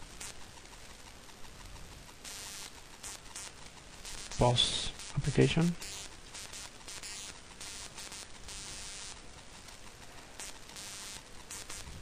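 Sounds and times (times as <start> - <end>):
recording noise hiss: 0.0 - 12.0.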